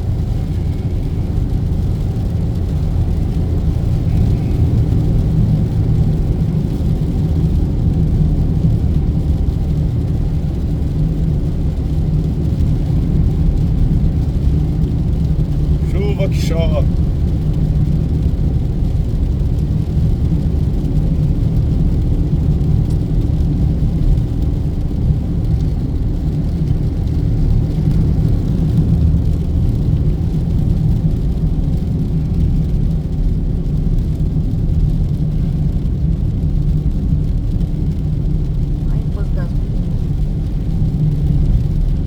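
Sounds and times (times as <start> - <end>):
car cabin road rumble: 0.0 - 42.0.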